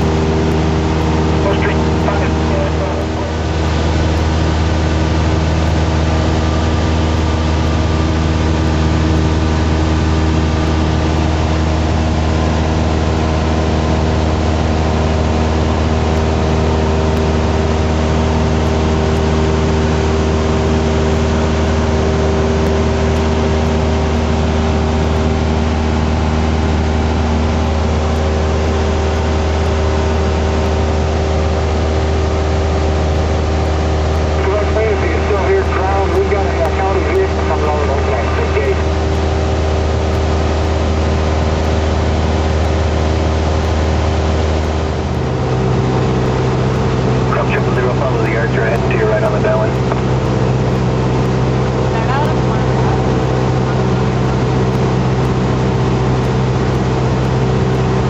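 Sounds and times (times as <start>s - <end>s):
propeller aircraft engine droning: 0.0s - 58.0s.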